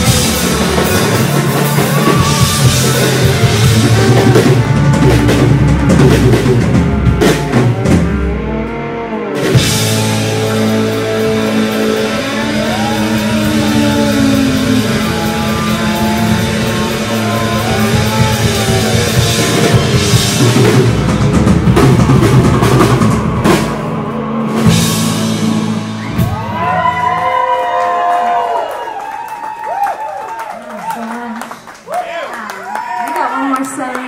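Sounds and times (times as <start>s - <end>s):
drum kit: 0.0s - 28.9s
bass guitar: 0.0s - 29.2s
electric guitars: 0.0s - 29.6s.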